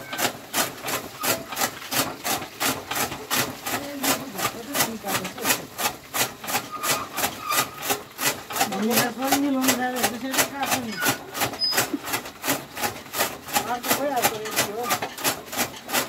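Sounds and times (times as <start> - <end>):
chaff cutter chopping fodder: 0.0 - 16.0.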